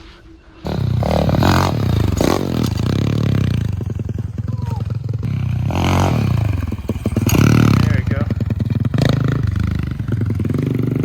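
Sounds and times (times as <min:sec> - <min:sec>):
pit bike engine running: 0:00.7 - 0:11.0.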